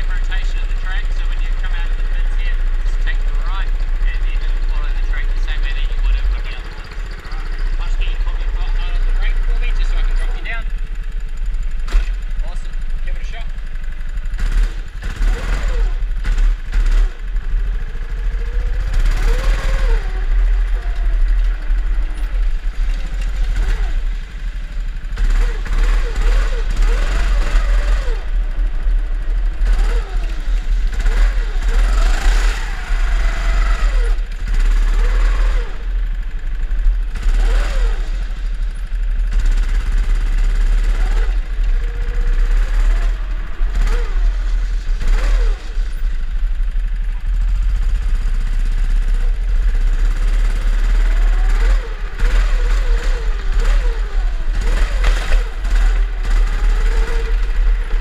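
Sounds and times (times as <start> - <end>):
deep rumble: 0.0 - 58.0
kart motors revving: 0.0 - 58.0.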